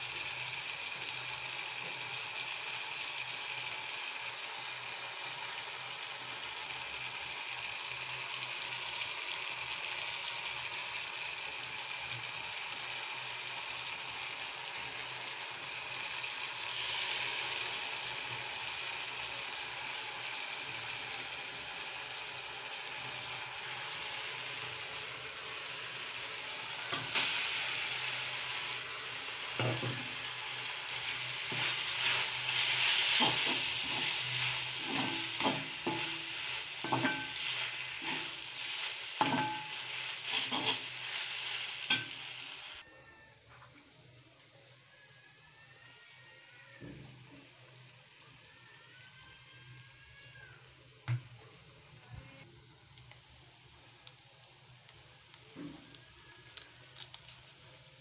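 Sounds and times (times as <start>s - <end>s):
vegetables sizzling in a wok: 0.0s - 58.0s.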